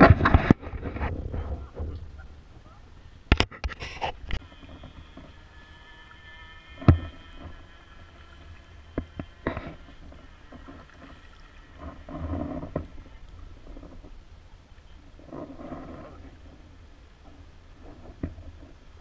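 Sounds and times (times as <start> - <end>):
paddle blades splashing: 0.0 - 19.0
water noise swell: 0.7 - 19.0.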